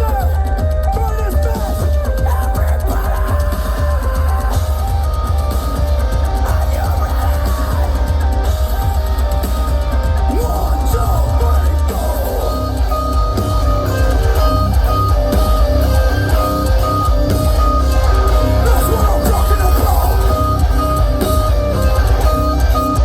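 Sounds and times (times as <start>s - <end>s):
electric guitar lead line: 0.0s - 23.0s
heavy bass guitar: 0.0s - 23.0s.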